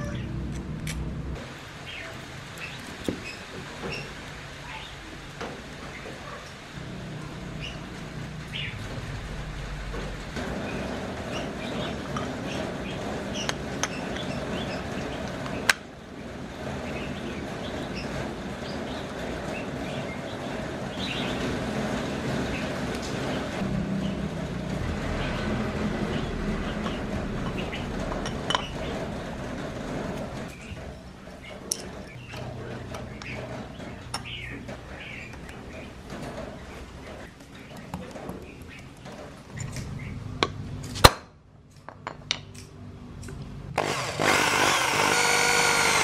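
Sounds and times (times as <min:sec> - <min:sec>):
steady background noise: 0:00.0 - 0:46.0.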